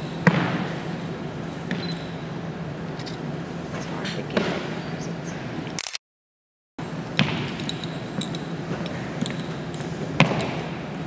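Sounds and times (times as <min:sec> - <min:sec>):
steady low hum: 0:00.0 - 0:05.8, 0:06.8 - 0:11.0.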